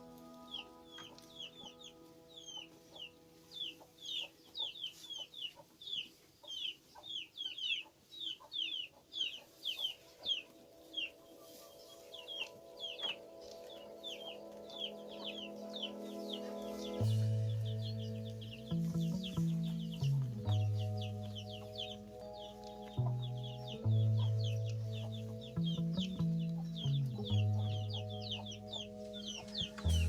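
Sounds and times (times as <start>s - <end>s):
chicks peeping: 0.0s - 30.0s
faint background music: 0.0s - 30.0s.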